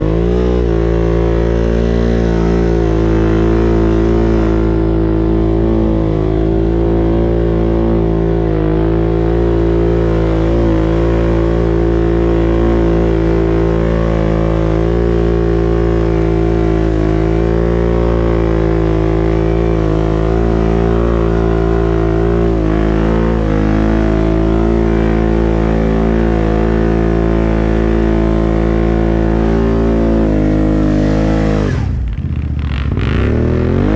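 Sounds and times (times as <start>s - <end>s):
atv engine climbing under load: 0.0s - 33.9s.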